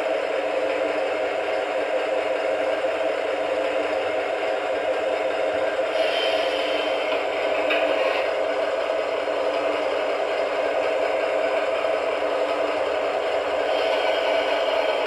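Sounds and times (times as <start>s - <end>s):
diesel engine idling through small speaker: 0.0s - 15.0s.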